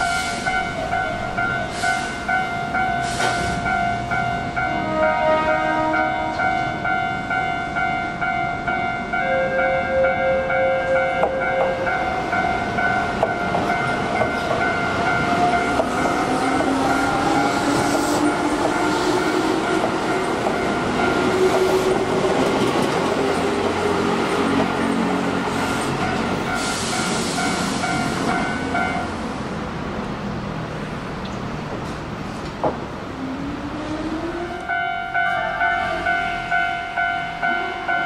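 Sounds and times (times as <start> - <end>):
passing train rattling: 0.0 - 38.0.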